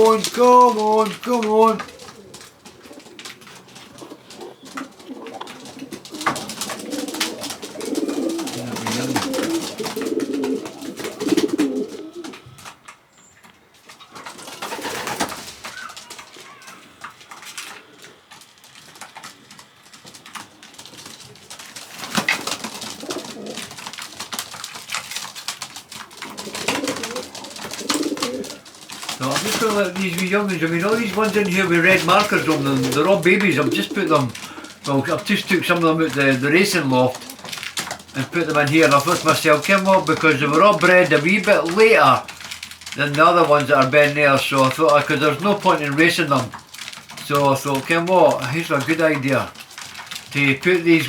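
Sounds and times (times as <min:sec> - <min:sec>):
sharp rustling: 0:00.0 - 0:12.8, 0:13.6 - 0:51.0
pigeons cooing: 0:00.0 - 0:51.0.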